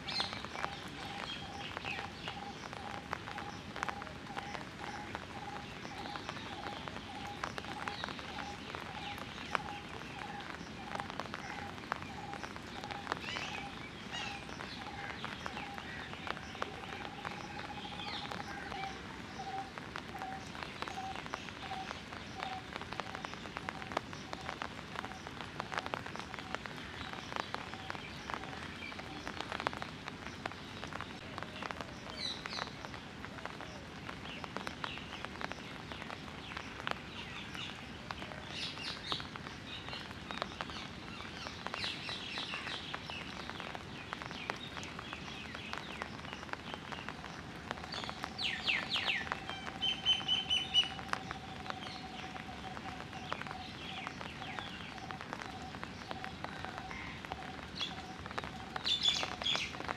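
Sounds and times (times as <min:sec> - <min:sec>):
drizzle dripping on leaves: 0:00.0 - 0:59.9.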